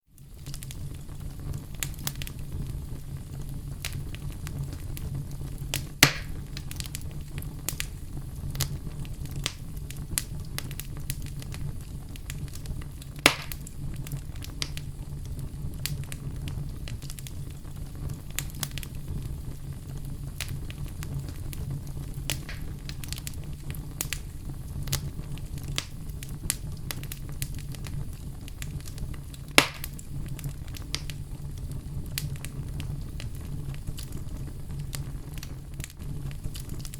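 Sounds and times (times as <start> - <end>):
fire burning with crackles: 0.0 - 36.9
loud fire pops: 0.2 - 36.9.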